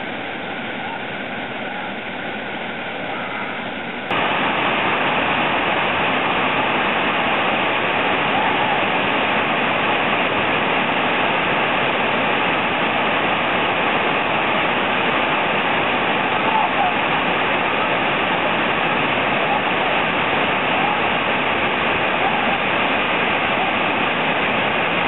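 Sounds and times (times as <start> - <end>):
waterfall rushing: 3.9 - 25.0.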